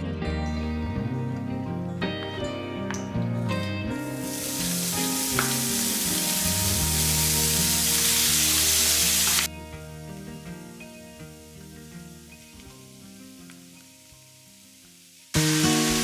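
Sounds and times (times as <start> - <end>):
soft background music: 0.4 - 13.7
food sizzling in hot oil: 0.8 - 16.0.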